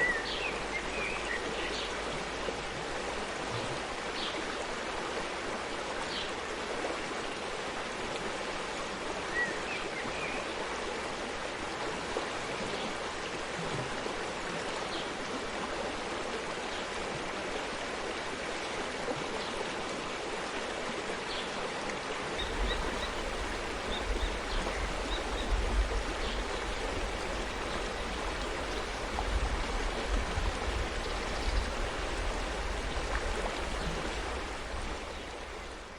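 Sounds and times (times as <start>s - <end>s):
stream water gurgling: 0.0s - 35.9s.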